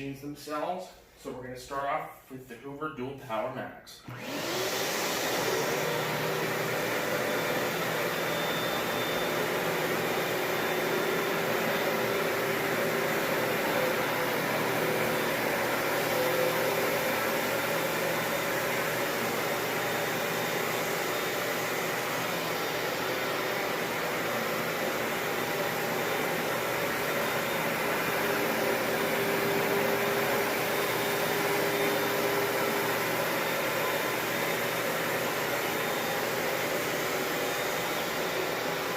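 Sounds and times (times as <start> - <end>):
carpet cleaner motor whirring: 4.1 - 38.9.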